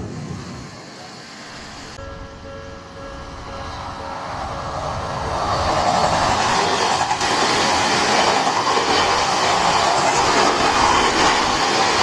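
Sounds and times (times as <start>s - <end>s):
train approaching: 0.0s - 12.0s.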